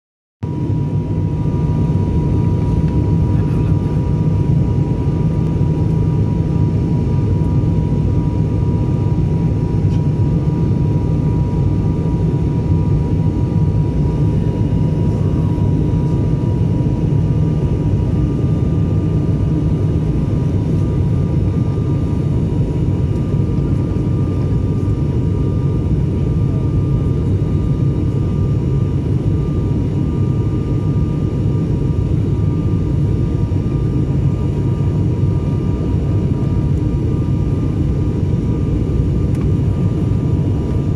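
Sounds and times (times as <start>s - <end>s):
propeller engine drone: 0.4s - 40.9s.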